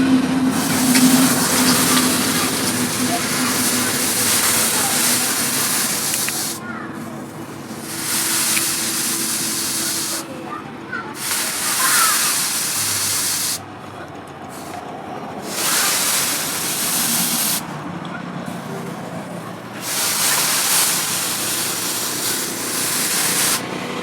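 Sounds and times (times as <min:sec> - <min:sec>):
loud hissing bursts: 0:00.4 - 0:17.8, 0:18.5 - 0:24.0.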